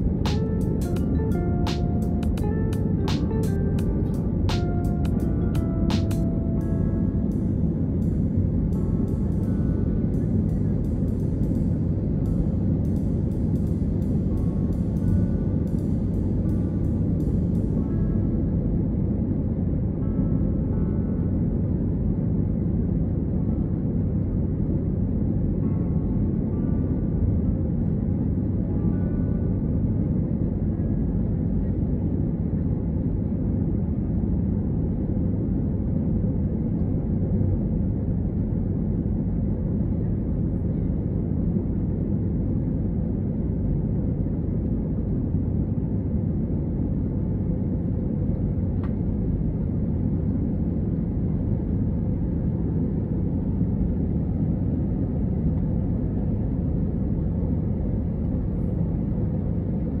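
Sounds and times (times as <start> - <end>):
airplane cabin drone: 0.0 - 60.0.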